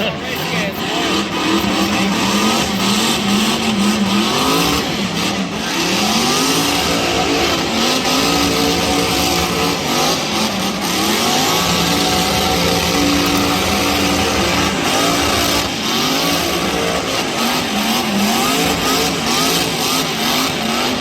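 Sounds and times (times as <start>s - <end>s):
car engine revving: 0.0s - 21.0s
steady rush of noise: 0.0s - 21.0s.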